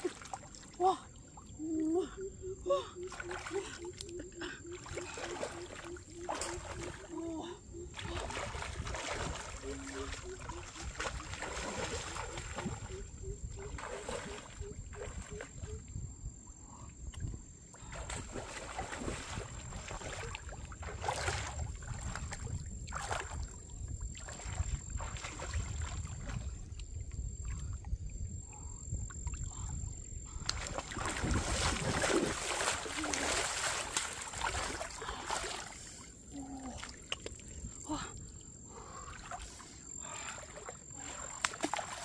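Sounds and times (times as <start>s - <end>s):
person wading through shallow water: 0.0s - 16.0s, 16.6s - 42.0s.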